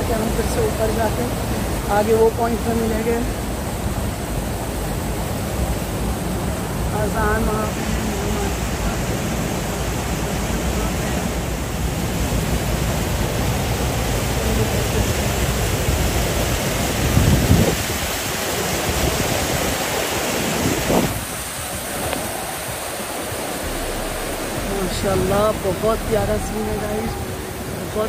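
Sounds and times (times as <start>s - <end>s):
stream rushing over rocks: 0.0s - 28.0s
wind on microphone: 0.0s - 28.0s.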